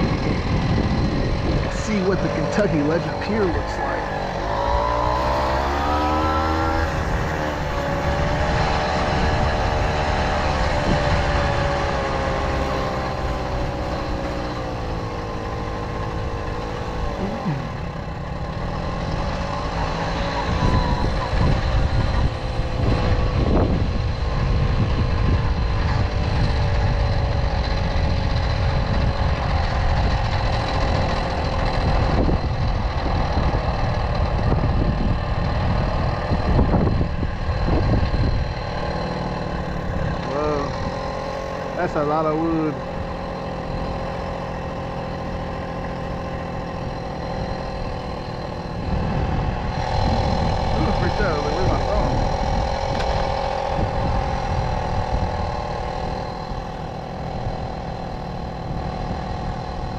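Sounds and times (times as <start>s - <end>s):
heavy low rumble: 0.0s - 59.9s
moped two-stroke engine running: 0.0s - 59.9s.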